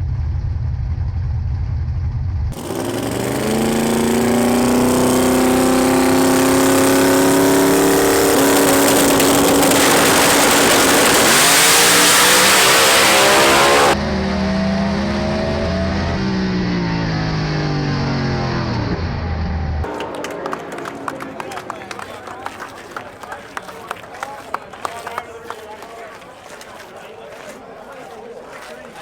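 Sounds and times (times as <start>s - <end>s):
drag car engine roaring: 0.3s - 24.0s.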